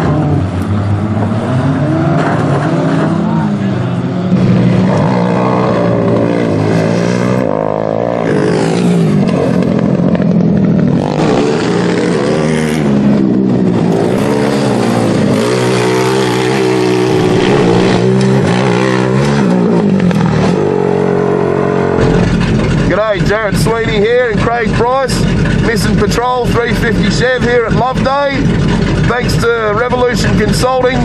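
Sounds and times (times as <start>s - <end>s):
truck engines revving hard: 0.0s - 31.0s.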